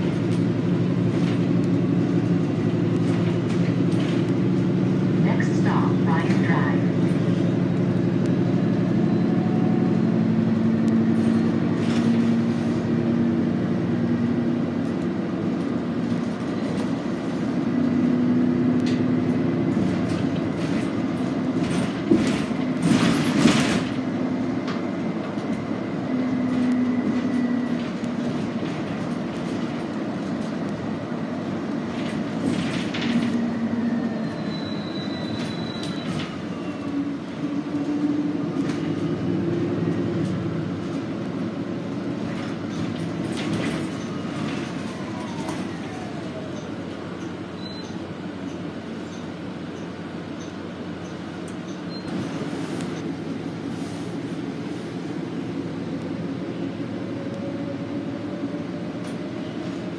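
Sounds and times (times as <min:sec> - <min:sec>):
bus drive rumble: 0:00.0 - 0:59.9.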